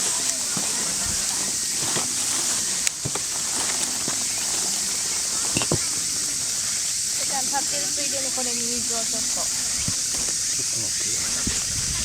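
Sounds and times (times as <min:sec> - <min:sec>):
campfire crackling and popping: 0:00.0 - 0:12.0
steady high hiss: 0:00.0 - 0:12.0.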